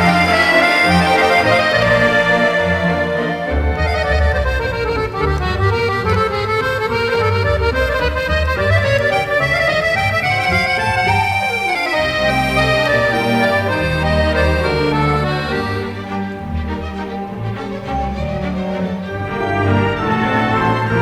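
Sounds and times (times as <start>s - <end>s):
accordion music: 0.0s - 21.0s.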